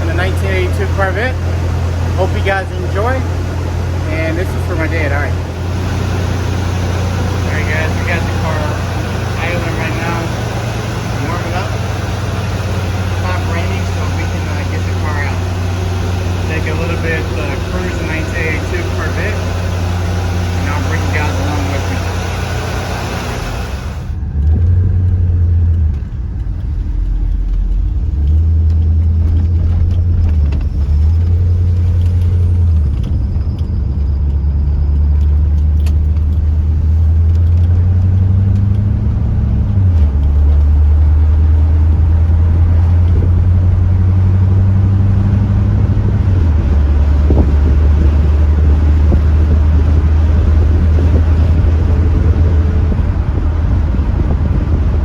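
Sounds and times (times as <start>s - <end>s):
deep car engine drone: 0.0s - 55.0s.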